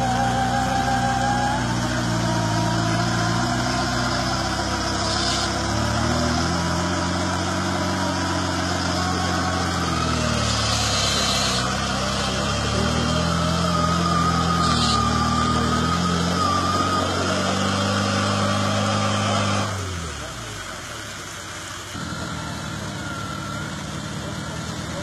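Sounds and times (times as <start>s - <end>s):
buggy engine revving: 0.0s - 25.0s.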